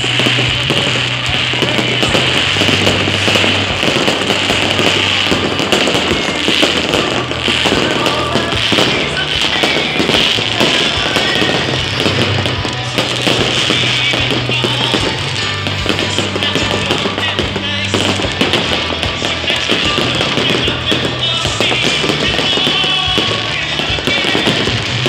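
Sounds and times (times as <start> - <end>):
fireworks bangs and crackling: 0.0 - 25.0
music playing: 0.0 - 25.0.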